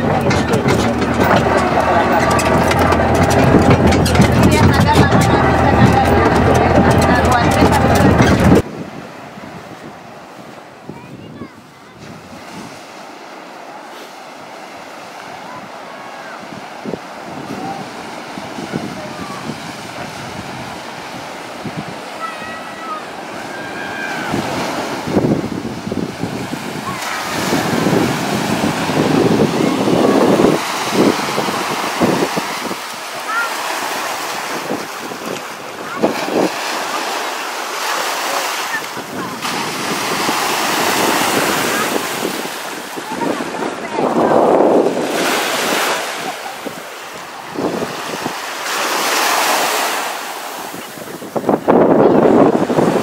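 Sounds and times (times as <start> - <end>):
wind buffeting microphone: 0.0 - 13.5, 14.2 - 38.0, 38.6 - 53.0
gentle surf on shore: 0.0 - 53.0
small waves breaking on sand: 8.6 - 53.0.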